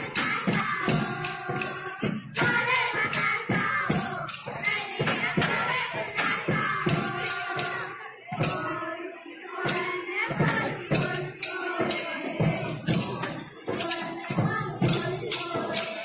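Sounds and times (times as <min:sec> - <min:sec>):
percussion strikes: 0:00.0 - 0:16.0
person singing: 0:00.0 - 0:16.0.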